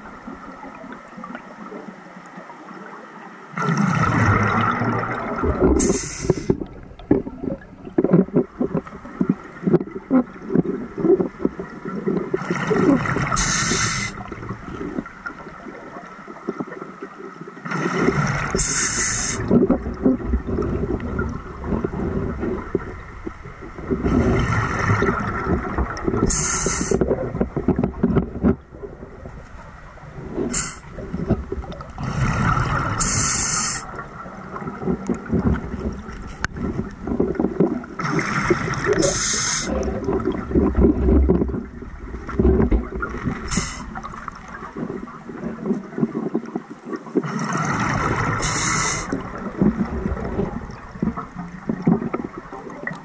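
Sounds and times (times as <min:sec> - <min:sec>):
low crackly water noise: 0:00.0 - 0:53.0
underwater bubbles gurgling: 0:00.0 - 0:53.0.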